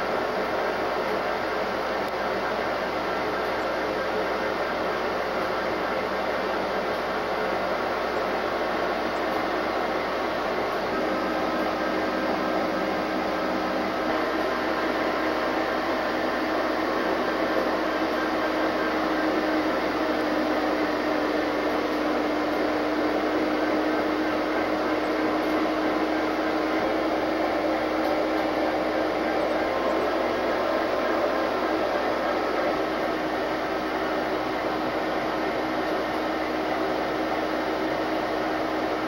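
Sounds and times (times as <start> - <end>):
locomotive engine humming: 0.0 - 39.0.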